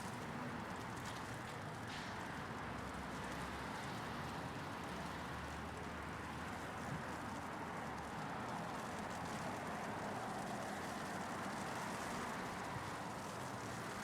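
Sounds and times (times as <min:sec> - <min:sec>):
hum of traffic: 0:00.0 - 0:14.0.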